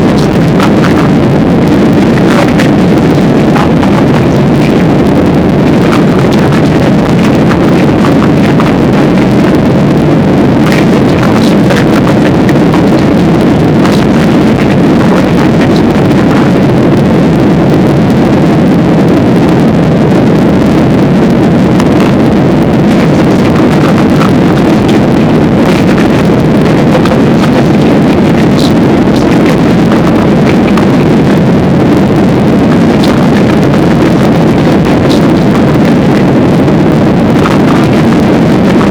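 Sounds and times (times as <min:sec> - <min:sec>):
plane engine and airflow in cabin: 0:00.0 - 0:38.9.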